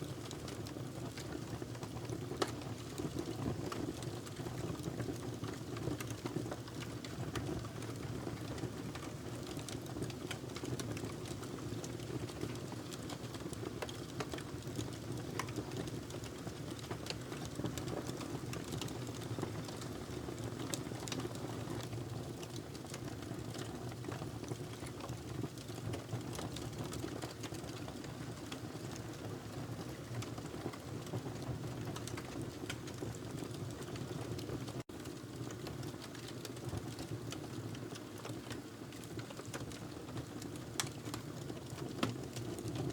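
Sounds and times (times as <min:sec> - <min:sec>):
fire crackling and popping: 0:00.2 - 0:29.2, 0:29.8 - 0:42.9.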